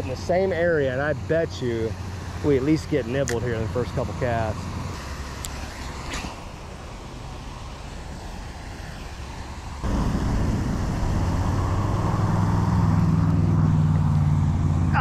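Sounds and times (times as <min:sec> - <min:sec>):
faint outdoor background noise: 0:00.0 - 0:15.0
low engine hum: 0:00.0 - 0:15.0.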